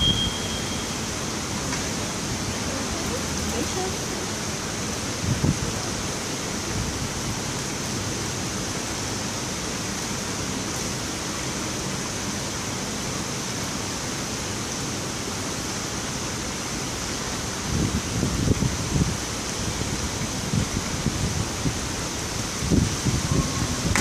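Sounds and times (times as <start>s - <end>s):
indoor pool hall hiss: 0.0s - 24.0s.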